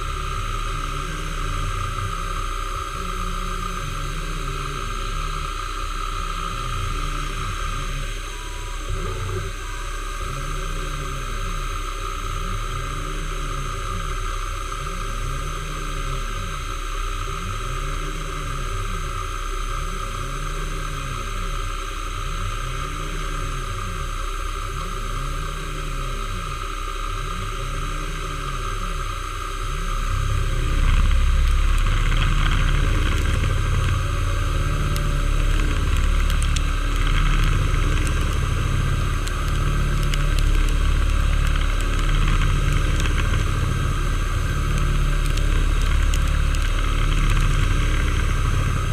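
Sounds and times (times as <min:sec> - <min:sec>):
metalworking machine running: 0:00.0 - 0:48.9.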